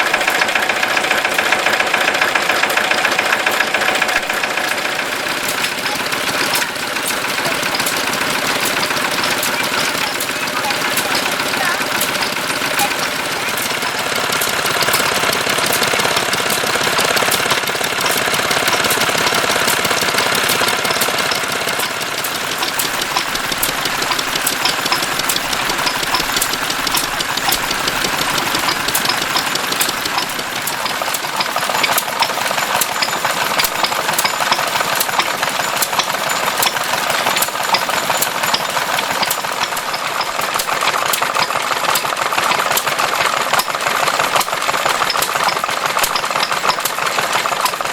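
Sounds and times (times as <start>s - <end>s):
sharp engine tick: 0.0s - 47.9s
stationary engine clattering: 0.0s - 47.9s.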